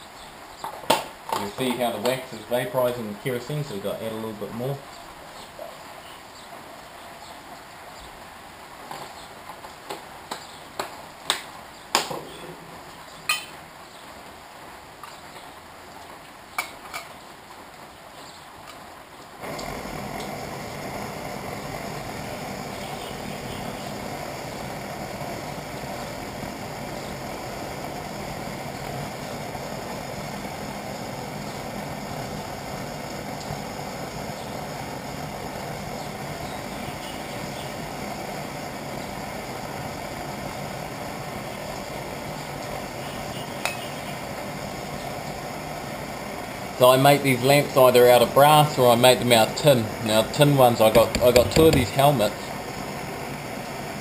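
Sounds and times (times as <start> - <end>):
camp stove burner hissing: 0.0 - 54.0.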